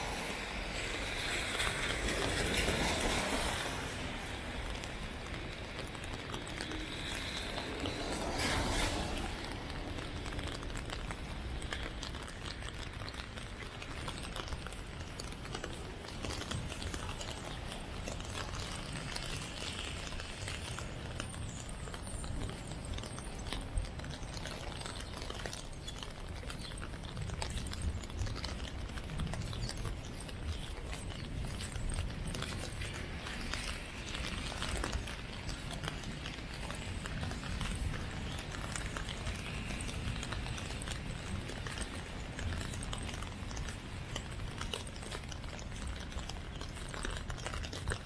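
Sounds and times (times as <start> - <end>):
rain hiss on wet pavement: 0.0 - 48.0
raindrops ticking: 0.0 - 48.0.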